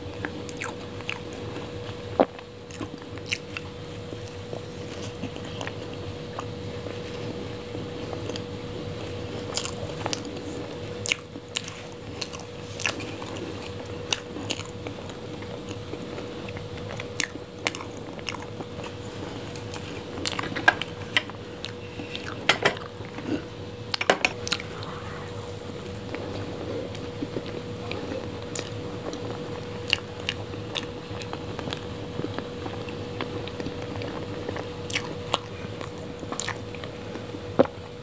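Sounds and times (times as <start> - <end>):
mouth chewing cake: 0.0 - 37.8
faint steady hum: 0.0 - 38.0.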